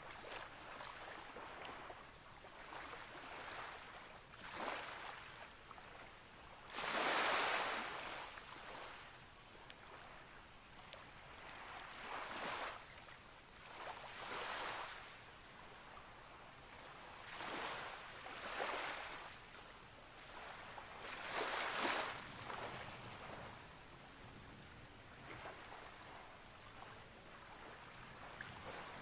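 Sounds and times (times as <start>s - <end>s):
small waves washing ashore: 0.0s - 29.0s.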